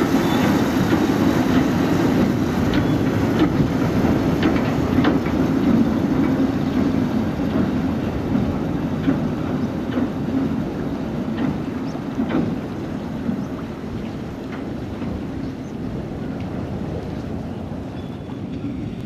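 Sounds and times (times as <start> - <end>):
electric train rumbling: 0.0 - 19.0
wheels clicking over rail joints: 0.0 - 19.0.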